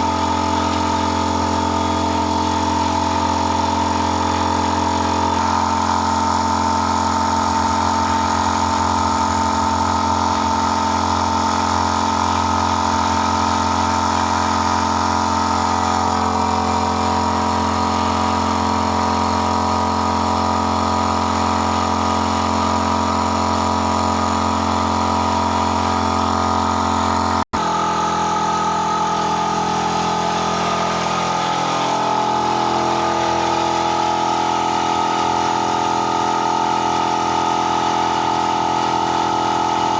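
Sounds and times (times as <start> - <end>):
motor humming: 0.0 - 39.9.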